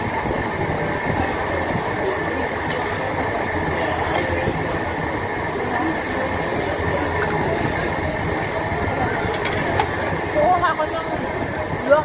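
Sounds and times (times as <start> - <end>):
extraction fan rumble and whine: 0.0 - 12.0.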